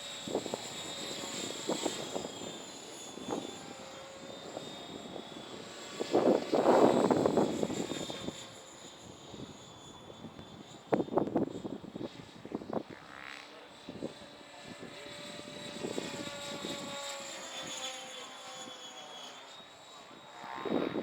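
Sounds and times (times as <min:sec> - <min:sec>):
rc helicopter high whine: 0:00.0 - 0:21.0.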